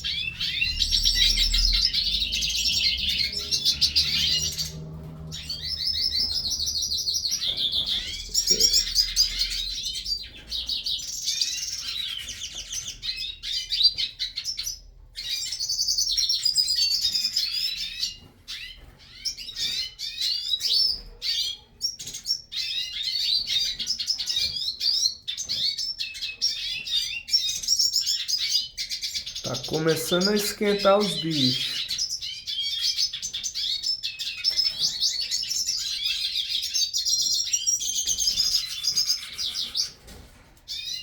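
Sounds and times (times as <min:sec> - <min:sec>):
birds twittering song: 0:00.0 - 0:41.0.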